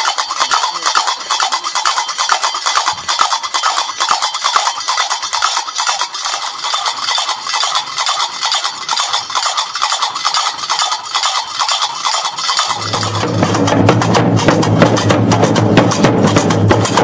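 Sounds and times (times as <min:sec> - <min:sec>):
iron castanets clacking: 0:00.0 - 0:17.0.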